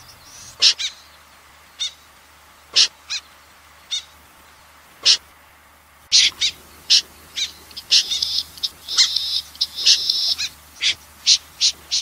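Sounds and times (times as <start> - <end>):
snipe calling: 0.0 - 2.1, 2.7 - 4.2, 5.0 - 5.3, 6.1 - 12.0.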